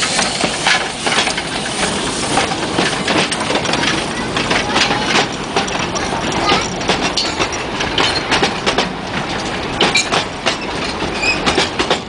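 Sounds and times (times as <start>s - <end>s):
train wheels clicking over rail joints: 0.0s - 12.0s.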